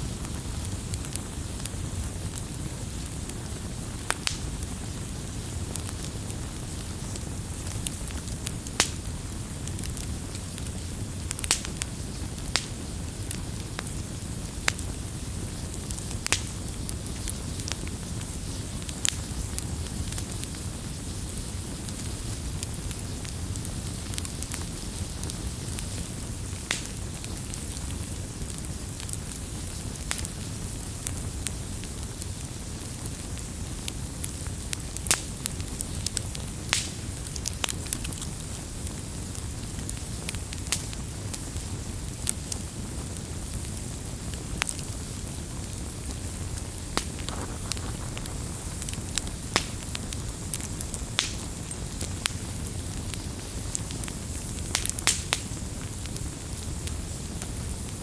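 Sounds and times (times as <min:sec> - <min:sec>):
fire rumbling and hissing: 0:00.0 - 0:58.0
firewood crackling and popping: 0:00.0 - 0:58.0.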